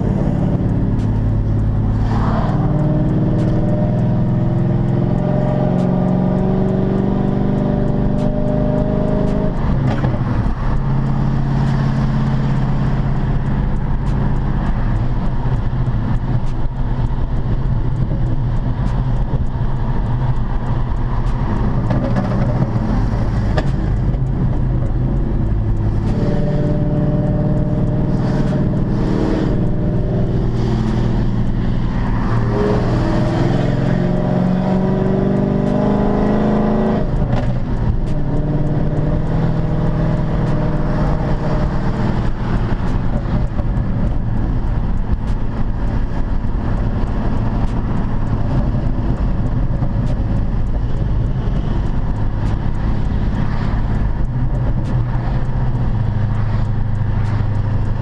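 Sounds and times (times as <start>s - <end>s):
car engine accelerating: 0.0s - 58.0s
tyre and road noise: 0.0s - 58.0s.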